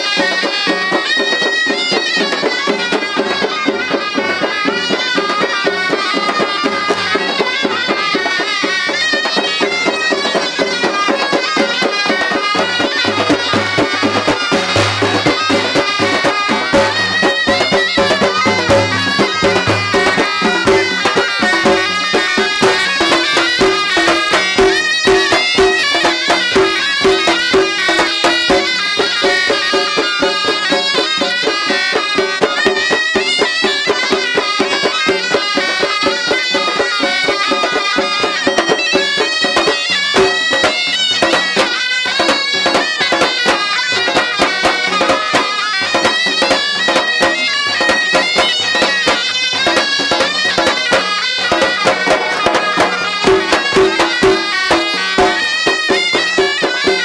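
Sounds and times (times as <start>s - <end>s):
double-headed drum beats: 0.0s - 57.0s
shawms playing reedy melody: 0.0s - 57.0s.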